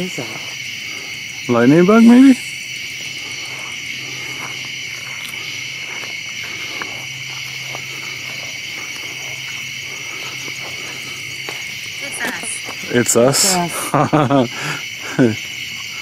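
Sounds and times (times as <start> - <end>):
crickets and night insects chirping: 0.0 - 16.0.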